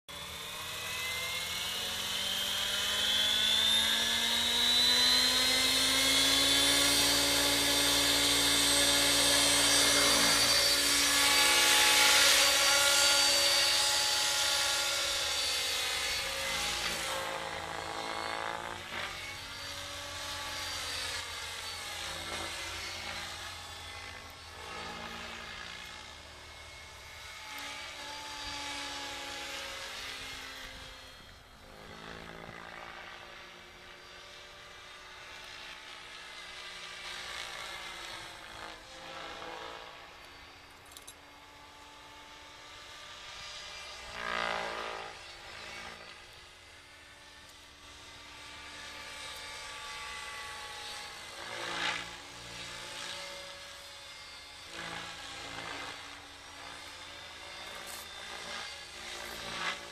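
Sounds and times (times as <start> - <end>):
rc helicopter rotor whining: 0.1 - 59.9.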